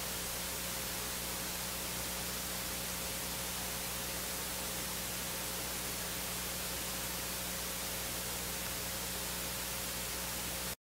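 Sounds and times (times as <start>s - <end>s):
low mains hum: 0.0s - 10.8s.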